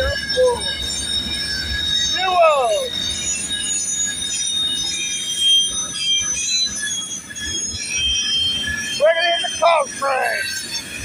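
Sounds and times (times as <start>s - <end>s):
train rumble: 0.0s - 11.0s
train wheels squealing on rails: 0.0s - 11.0s.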